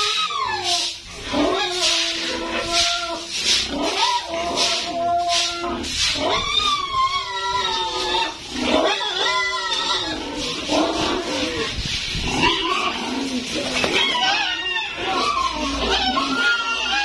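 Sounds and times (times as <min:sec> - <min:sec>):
piglets squealing: 0:00.0 - 0:17.0.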